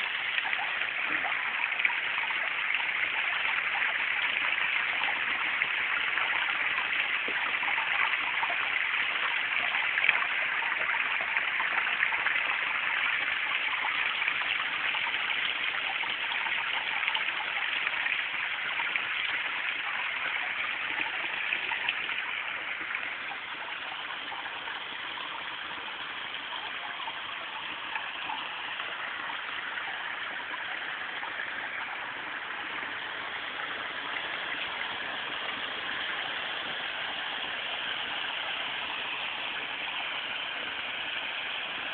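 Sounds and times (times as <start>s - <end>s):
waterfall spilling over rocks: 0.0s - 41.9s.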